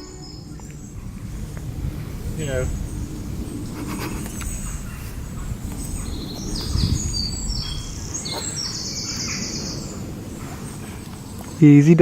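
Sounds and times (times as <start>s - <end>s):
small birds chirping and trilling: 0.0s - 12.0s
steady low rumbling: 0.0s - 12.0s.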